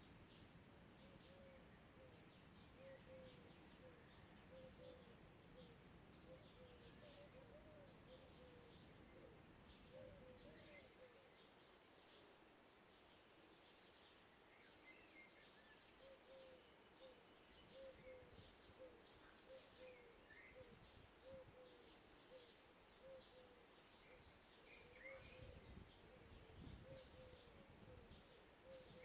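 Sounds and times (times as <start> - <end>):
small birds chirping and trilling: 0.0 - 29.0.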